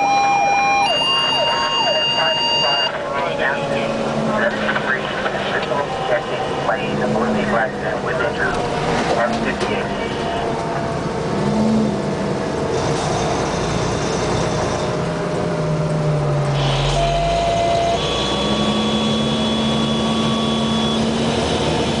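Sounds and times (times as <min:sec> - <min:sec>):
fire engine running: 0:00.0 - 0:22.0
road noise: 0:00.0 - 0:22.0.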